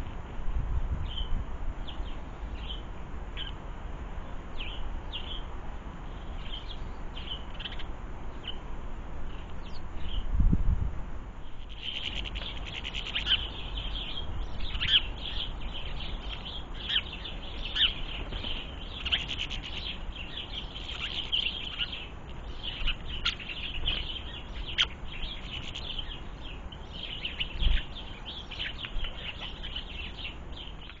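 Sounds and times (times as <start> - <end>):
small birds chirping: 0.0 - 10.4, 11.4 - 31.0.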